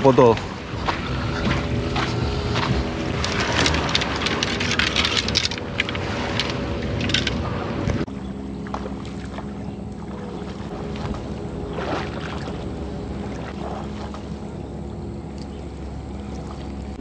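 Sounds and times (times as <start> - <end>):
steady low hum: 0.0 - 17.0
wading and splashing in water: 0.0 - 17.0.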